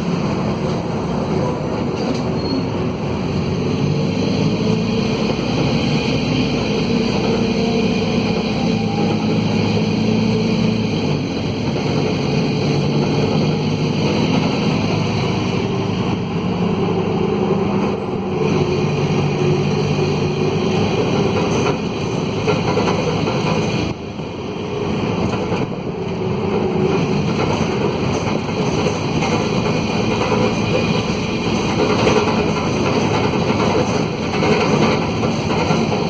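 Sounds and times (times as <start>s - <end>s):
loud diesel bus engine: 0.0s - 36.0s.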